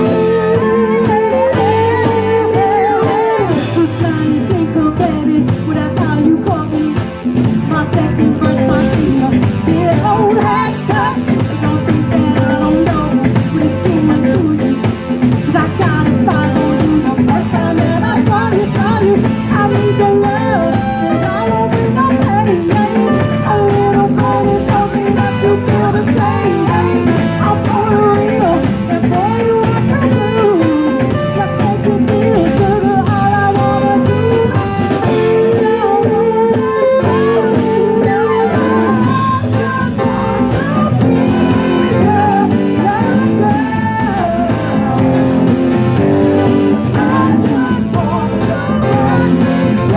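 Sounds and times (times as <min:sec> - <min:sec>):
blues-rock band playing: 0:00.0 - 0:49.9
lead guitar bending notes: 0:00.0 - 0:49.9.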